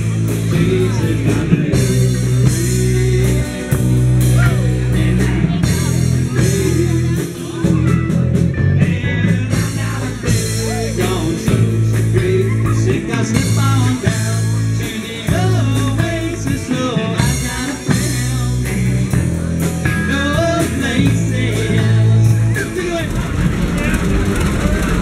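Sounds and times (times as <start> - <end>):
person singing: 0.0 - 25.0
rock band playing: 0.0 - 25.0.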